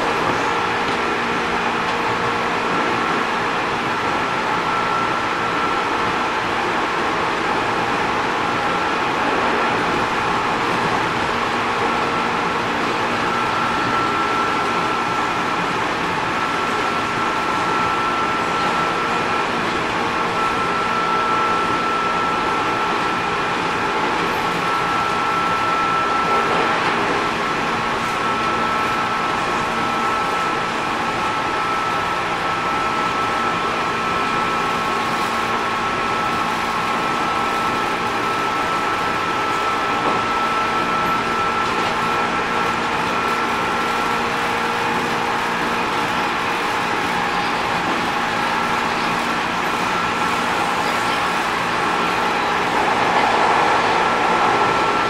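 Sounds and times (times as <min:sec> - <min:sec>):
train interior rumble and hum: 0:00.0 - 0:55.0.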